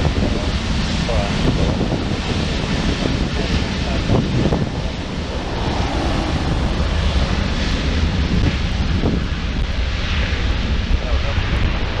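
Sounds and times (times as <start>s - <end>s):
jet airliner roar: 0.0s - 12.0s
wind on microphone: 0.0s - 12.0s.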